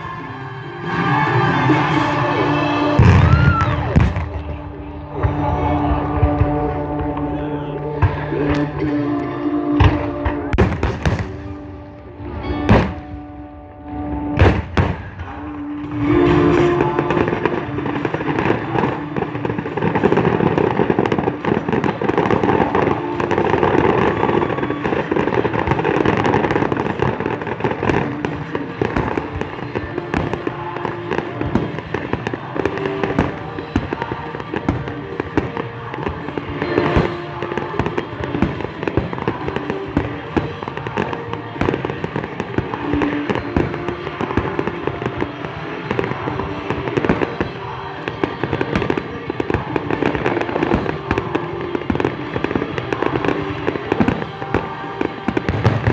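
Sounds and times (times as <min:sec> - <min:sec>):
fireworks bangs and crackles: 0:00.0 - 0:55.9
music playing: 0:00.0 - 0:55.9.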